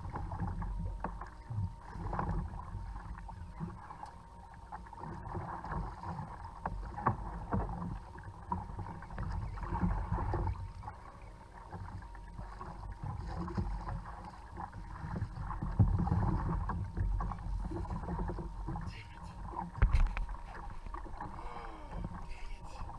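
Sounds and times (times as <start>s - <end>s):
low wind rumble on microphone: 0.0s - 22.9s
water splashing against kayak hull: 0.0s - 22.9s.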